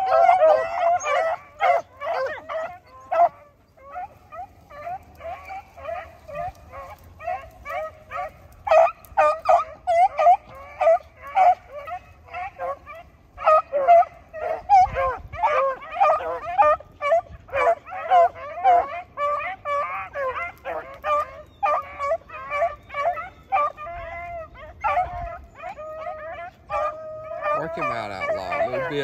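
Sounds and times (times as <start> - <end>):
dogs baying and barking: 0.0 - 29.0.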